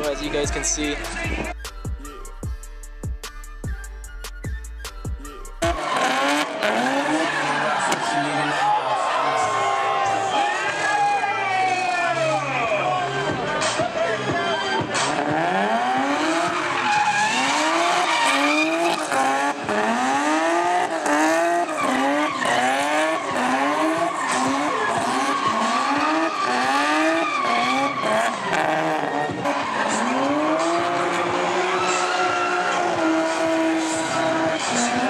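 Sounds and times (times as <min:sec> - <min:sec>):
car engine revving: 0:05.3 - 0:35.0
tires squealing: 0:05.6 - 0:35.0.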